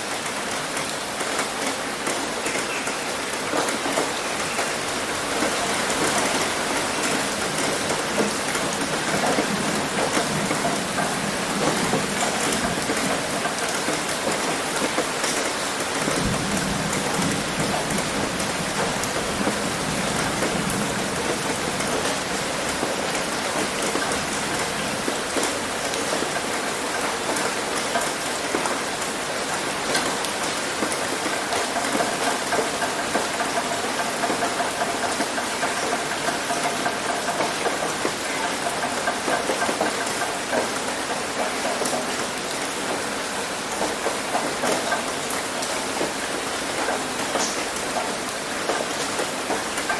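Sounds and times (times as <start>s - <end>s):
heavy rain on a roof: 0.0s - 49.9s.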